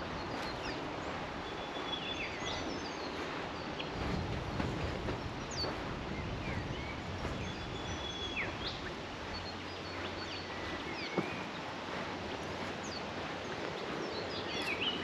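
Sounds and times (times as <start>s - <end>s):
birds whistling and chirping: 0.0s - 15.0s.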